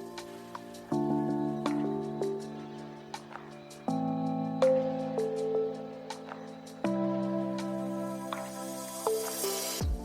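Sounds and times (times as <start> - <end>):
music with long held chords: 0.0 - 10.0.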